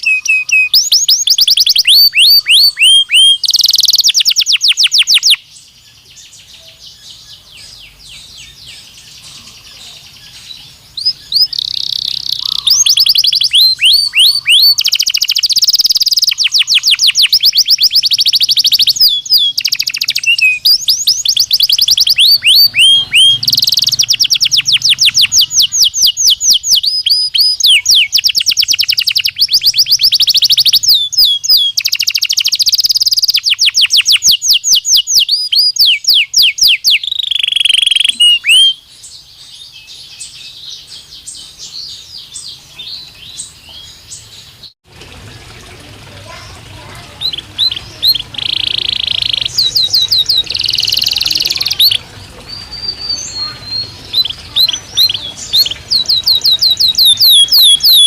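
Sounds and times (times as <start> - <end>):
canary trilling: 0.0 - 5.4, 7.7 - 38.8, 46.3 - 58.0
soft bird twittering: 0.0 - 44.8, 46.3 - 58.0.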